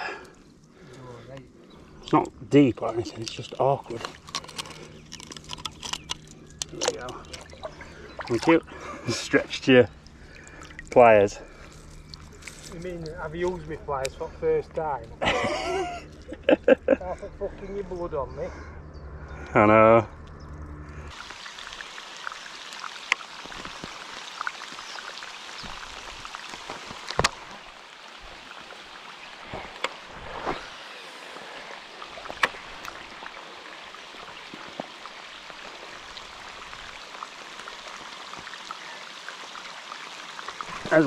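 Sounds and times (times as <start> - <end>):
sharp ticks of raindrops: 0.0 - 17.0, 21.1 - 30.1, 31.9 - 41.0
rain falling on water: 2.1 - 16.7, 21.1 - 41.0.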